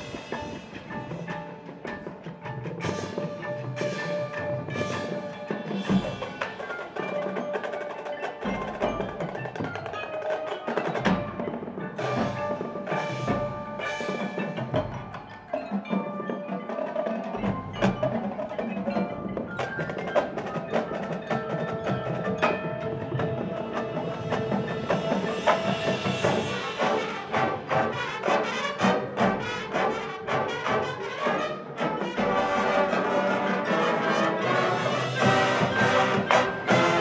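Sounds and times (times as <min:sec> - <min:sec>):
mallet percussion notes: 0:00.0 - 0:37.0
marching band playing: 0:00.0 - 0:37.0.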